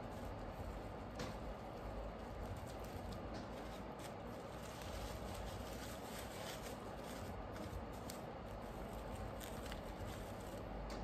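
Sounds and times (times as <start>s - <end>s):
room hiss: 0.0s - 11.0s
stems rustling and clicking: 0.0s - 11.0s.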